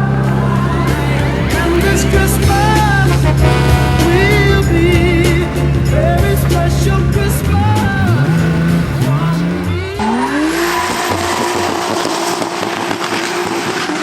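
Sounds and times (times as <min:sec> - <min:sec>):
car engine revving: 0:00.0 - 0:14.0
tyres screeching: 0:00.0 - 0:14.0.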